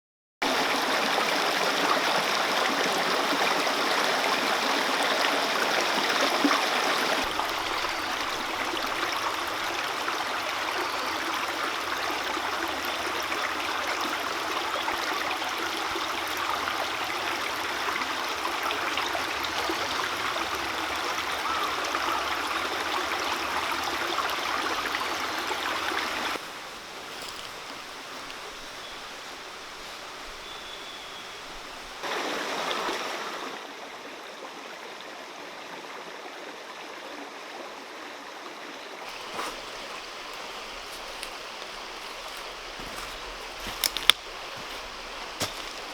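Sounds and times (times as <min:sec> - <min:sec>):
stream rushing and babbling: 0:00.4 - 0:45.9.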